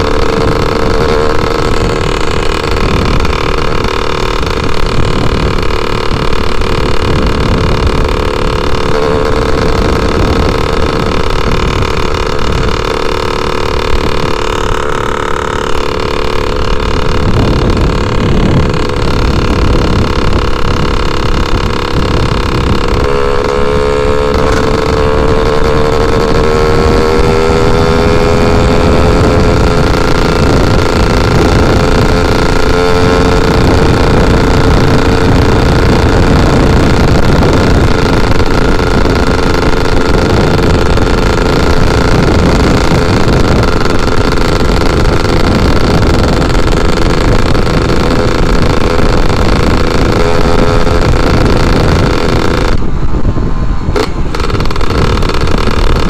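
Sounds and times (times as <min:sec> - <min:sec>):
two-stroke motorcycle engine: 0:00.0 - 0:56.0
wind rushing over microphone: 0:00.0 - 0:56.0.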